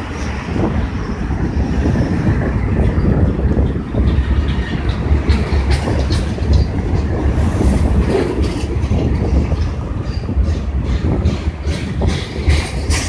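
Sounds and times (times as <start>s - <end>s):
freight train wheels rumbling: 0.0s - 13.0s
train clicks and clanks: 0.0s - 13.0s.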